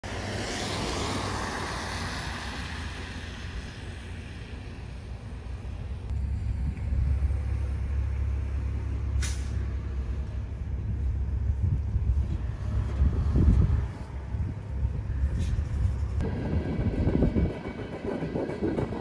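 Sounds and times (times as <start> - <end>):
car passing: 0.0 - 16.4
wind rumbling on microphone: 0.2 - 8.8, 9.6 - 19.0.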